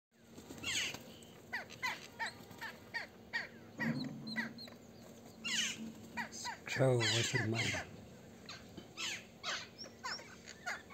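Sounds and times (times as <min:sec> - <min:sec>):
birds chirping: 0:00.2 - 0:10.9
harsh bird call: 0:00.6 - 0:10.9.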